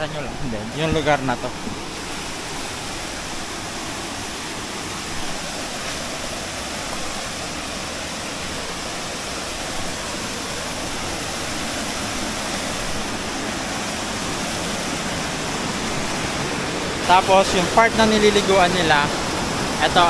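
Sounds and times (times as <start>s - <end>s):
water rushing over boulders: 0.0s - 20.0s.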